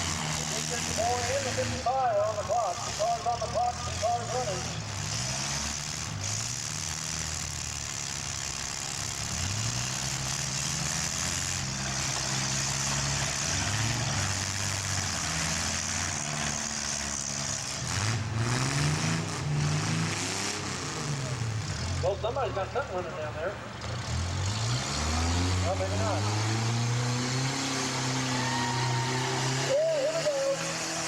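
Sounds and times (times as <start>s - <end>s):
small car engines revving: 0.0s - 31.0s.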